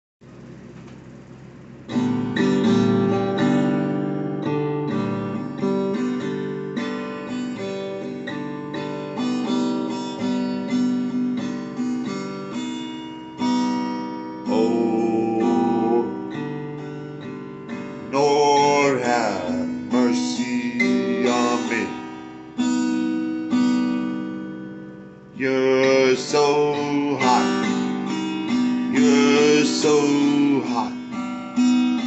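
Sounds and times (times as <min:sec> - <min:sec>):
acoustic guitar strumming chords: 0:00.4 - 0:32.0.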